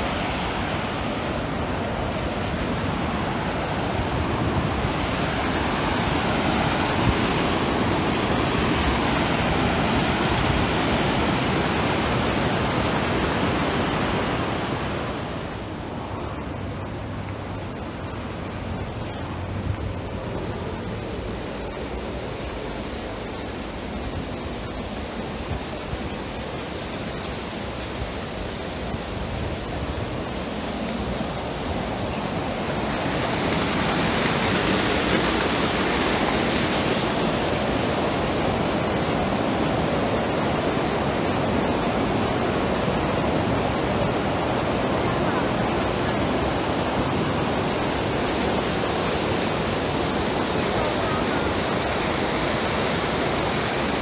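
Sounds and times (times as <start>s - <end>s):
river water rushing over rapids: 0.0s - 54.0s.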